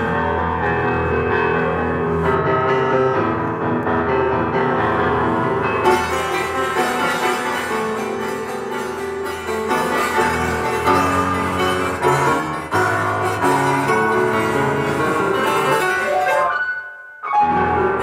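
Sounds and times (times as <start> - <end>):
piano with synthesizer: 0.0 - 18.0.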